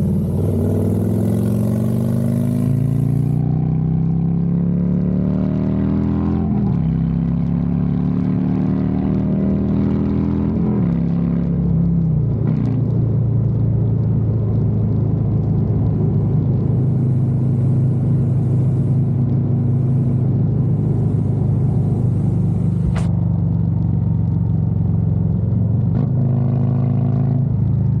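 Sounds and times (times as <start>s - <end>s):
motorcycle engine accelerating: 0.0s - 13.1s, 14.9s - 28.0s.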